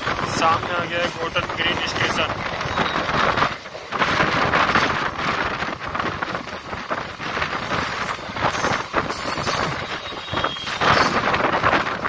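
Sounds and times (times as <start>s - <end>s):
train clattering on rails: 0.0s - 12.0s
wind buffeting microphone: 0.0s - 12.0s.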